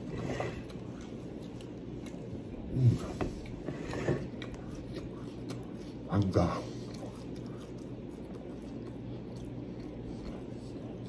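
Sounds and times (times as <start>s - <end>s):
person chewing: 0.0s - 11.0s.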